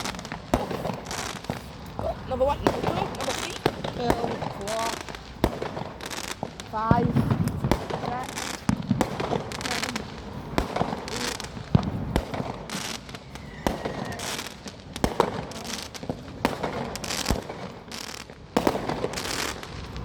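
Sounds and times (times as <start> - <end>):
firework bangs: 0.0 - 20.0
firework crackling: 0.0 - 20.0.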